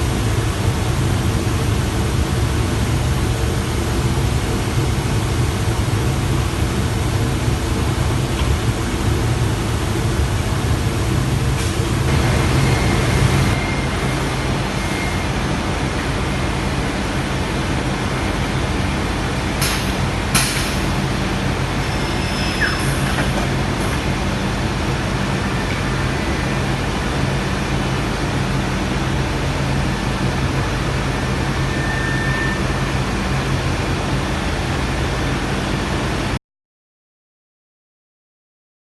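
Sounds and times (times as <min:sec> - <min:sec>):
machine running with low hum: 0:00.0 - 0:36.4.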